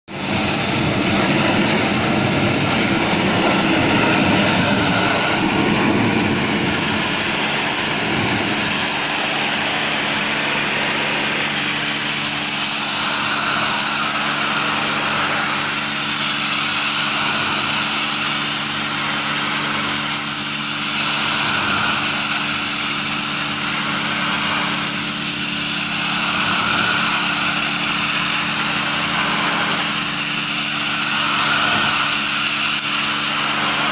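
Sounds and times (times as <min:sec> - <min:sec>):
engine hum: 0:00.0 - 0:33.9
pressure washer jet on sheet metal: 0:00.1 - 0:33.9.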